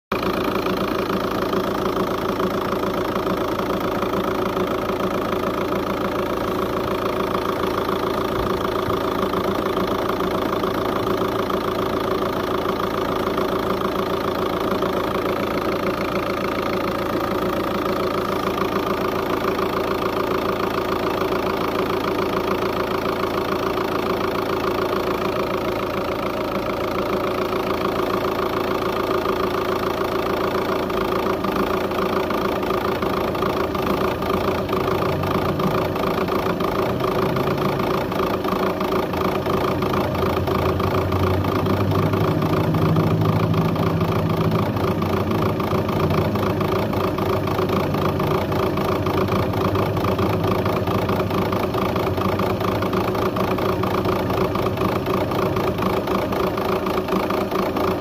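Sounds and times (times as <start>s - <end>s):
diesel engine idling unevenly: 0.1s - 58.0s.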